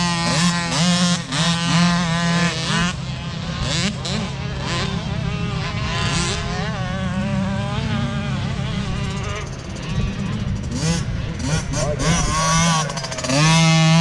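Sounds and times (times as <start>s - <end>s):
dirt bike engines revving: 0.0s - 14.0s
low engine drone: 0.0s - 14.0s.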